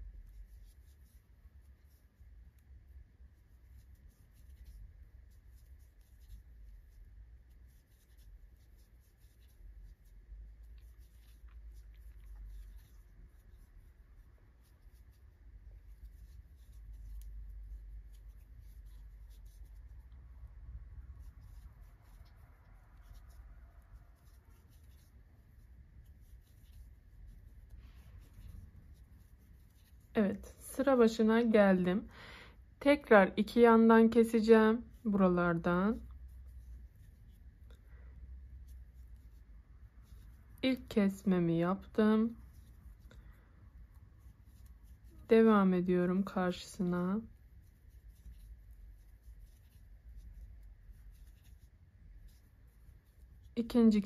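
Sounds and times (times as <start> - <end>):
crochet hook scratching yarn: 0.0 - 32.0, 32.8 - 54.0
low room rumble: 0.0 - 54.0
low steady hum: 0.0 - 54.0.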